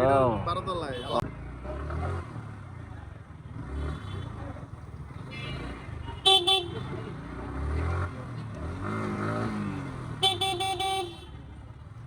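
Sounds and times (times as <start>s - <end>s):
busy street traffic: 0.0s - 12.0s
motorcycle engine rumble: 1.0s - 12.0s.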